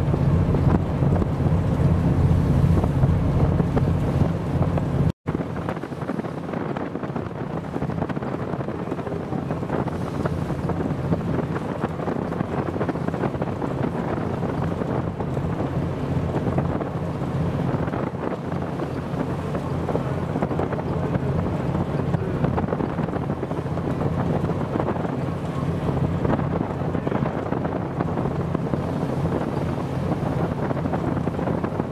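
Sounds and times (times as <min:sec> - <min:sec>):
choppy sea waves: 0:00.0 - 0:31.9
wind buffeting microphone: 0:00.0 - 0:31.9.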